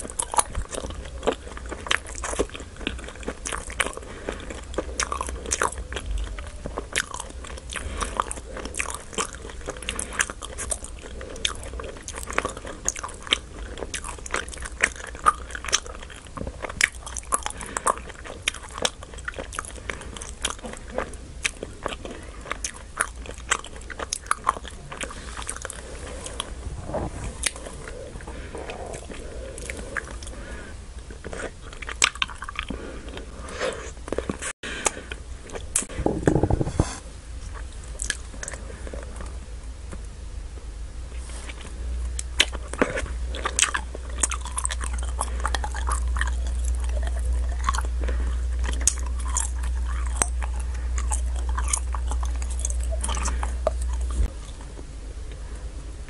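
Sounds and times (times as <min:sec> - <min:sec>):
chewing with wet mouth clicks: 0:00.0 - 0:35.9, 0:37.4 - 0:39.3, 0:41.5 - 0:55.4.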